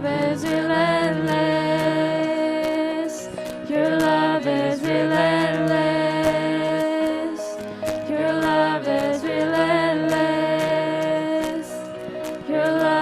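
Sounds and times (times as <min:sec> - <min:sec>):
live worship band music: 0:00.0 - 0:13.0.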